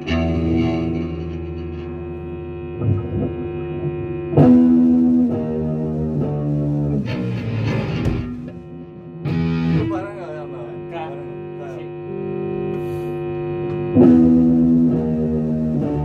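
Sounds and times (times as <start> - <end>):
distorted electric guitar chords: 0.0 - 16.0.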